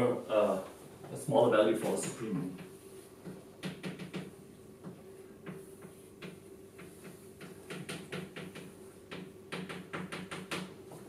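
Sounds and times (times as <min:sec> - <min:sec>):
steady low hum: 0:00.0 - 0:11.0
chalk tapping and scratching: 0:01.8 - 0:10.7.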